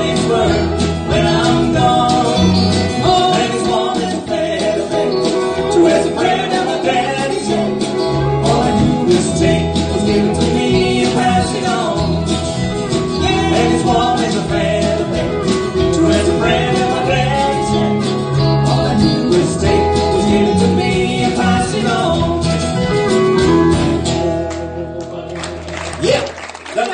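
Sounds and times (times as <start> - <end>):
country band playing: 0.0 - 26.9.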